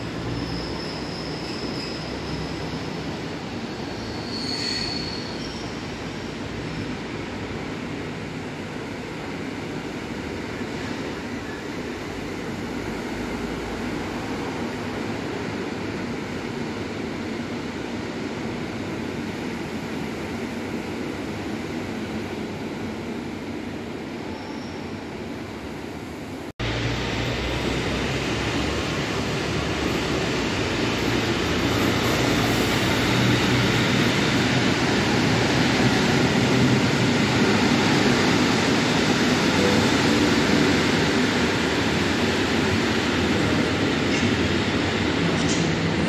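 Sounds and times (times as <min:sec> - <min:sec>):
passenger train rumbling: 0:00.0 - 0:46.0.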